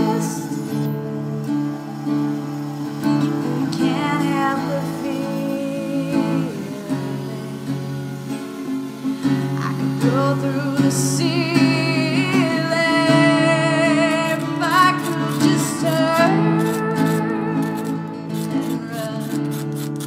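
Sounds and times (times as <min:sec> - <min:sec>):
woman singing slow song: 0:00.0 - 0:19.7
strummed acoustic guitar: 0:00.0 - 0:20.0.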